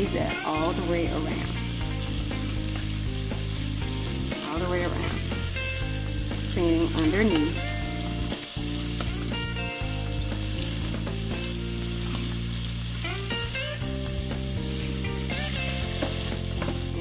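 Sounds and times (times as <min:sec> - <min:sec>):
background music with held chords: 0:00.0 - 0:17.0.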